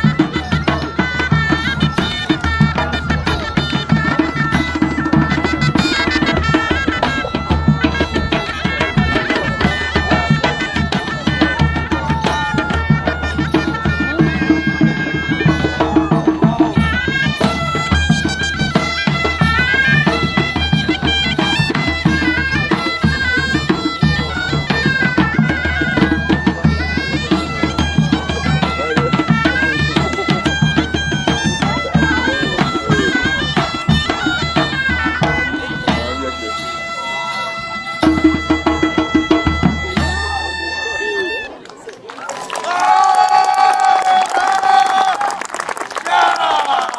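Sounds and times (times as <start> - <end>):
drum beating: 0.0 - 41.6
bagpipes playing folk music: 0.0 - 41.8.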